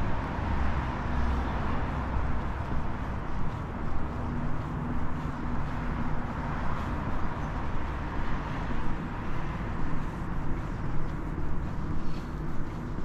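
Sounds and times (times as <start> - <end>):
distant traffic rumble: 0.0 - 13.0
footsteps on stone paving: 0.0 - 13.0.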